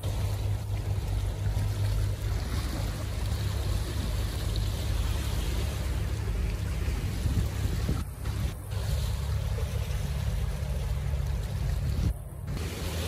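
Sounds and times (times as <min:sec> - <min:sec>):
waves washing against rocks: 0:00.0 - 0:13.0
wind rumbling on microphone: 0:00.0 - 0:13.0.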